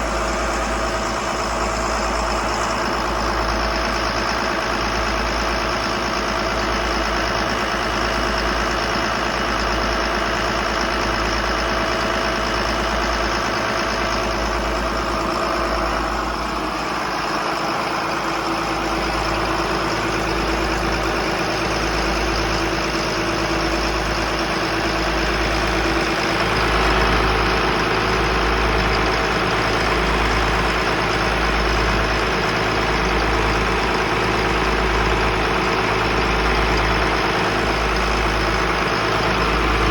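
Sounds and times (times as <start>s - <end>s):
boat diesel engines throbbing: 0.0s - 39.9s.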